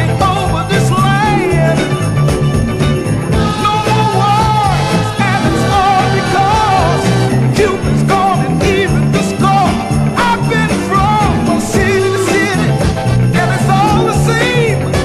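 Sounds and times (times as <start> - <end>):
soul song with full band: 0.0 - 15.0.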